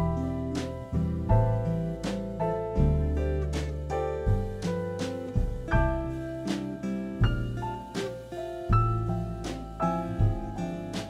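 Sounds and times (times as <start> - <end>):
instrumental plucked tune with bass: 0.0 - 11.0
sharp beats: 0.0 - 11.0.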